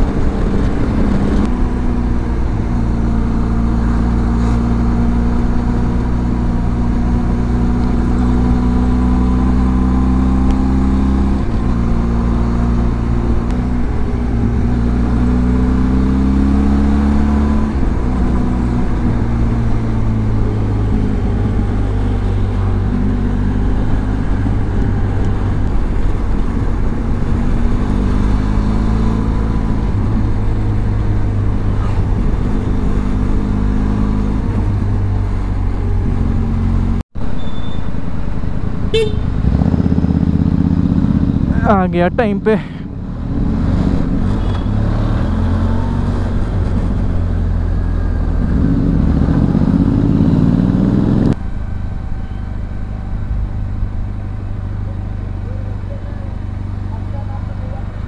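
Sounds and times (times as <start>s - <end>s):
motorcycle engine revving: 0.0s - 51.6s.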